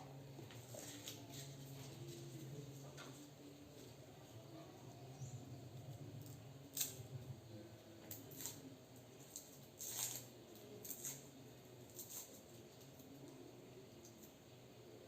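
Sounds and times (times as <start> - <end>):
scraping and clicking of food preparation: 0.4 - 4.0, 5.8 - 14.4.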